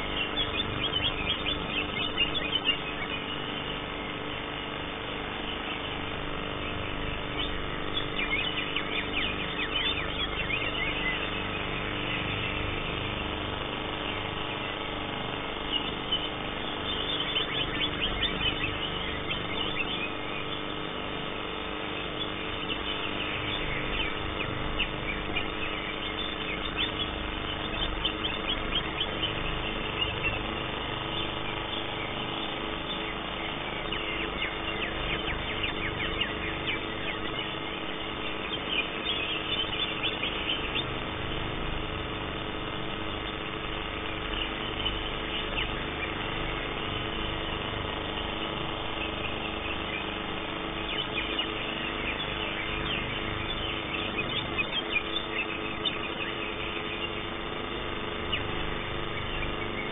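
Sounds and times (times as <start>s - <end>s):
bird chirping rapidly: 0.0s - 4.7s, 5.3s - 59.9s
steady hum: 0.0s - 59.9s.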